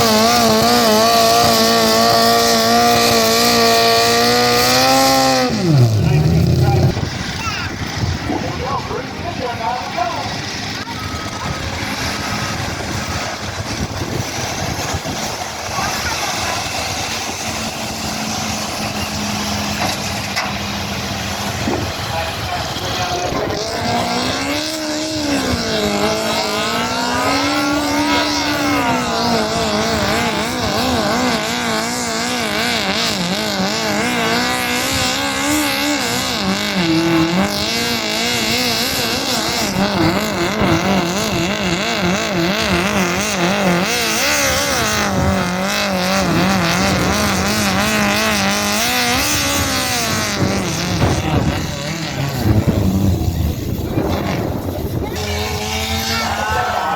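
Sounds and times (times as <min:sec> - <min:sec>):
engine running hard under load: 0:00.0 - 0:56.9.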